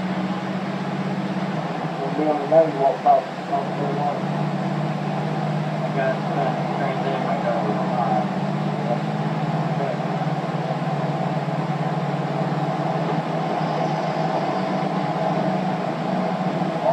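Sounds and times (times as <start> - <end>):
road noise: 0.0 - 16.9
vehicle engine hum: 0.0 - 16.9.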